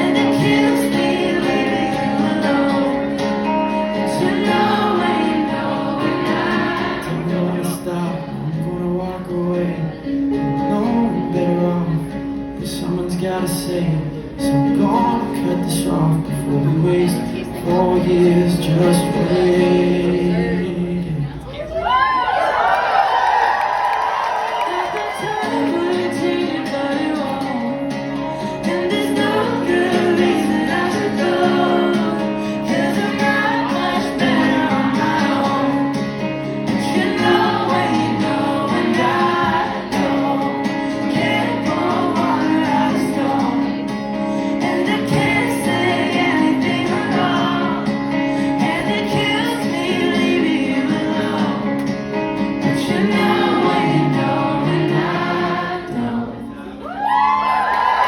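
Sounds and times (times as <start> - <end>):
sung vocal harmonies: 0.0 - 21.6, 23.9 - 58.0
live band playing: 0.0 - 22.0, 24.5 - 58.0
guitar: 0.0 - 58.0.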